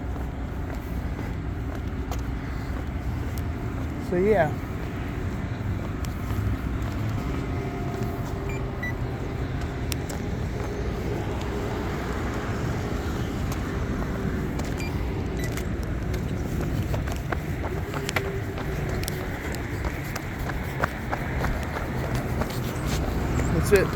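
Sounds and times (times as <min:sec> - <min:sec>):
cars passing: 0:00.0 - 0:23.9.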